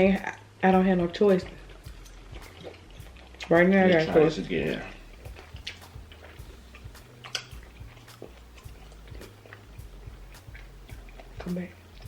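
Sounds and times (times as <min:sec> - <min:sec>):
mouth clicks and smacks: 0:01.4 - 0:12.0
person chewing food: 0:01.4 - 0:12.0.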